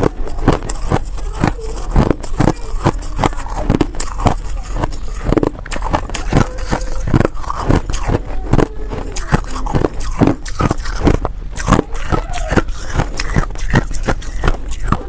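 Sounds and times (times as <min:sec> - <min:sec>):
ice crunching while chewed: 0:00.0 - 0:15.0.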